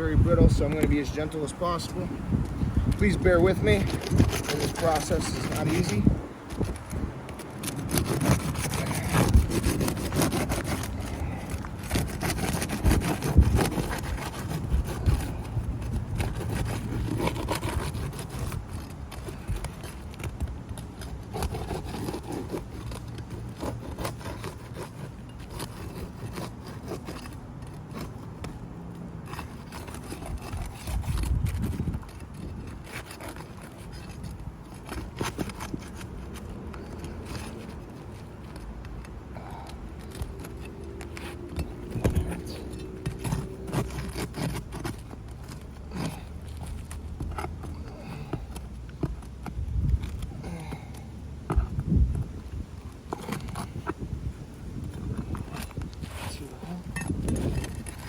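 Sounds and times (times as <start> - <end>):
scraping and rubbing on roof shingle: 0.0 - 58.0.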